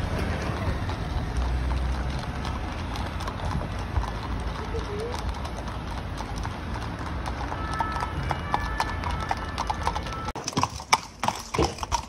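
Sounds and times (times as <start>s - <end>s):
hooves clip-clopping on pavement: 0.0s - 12.0s.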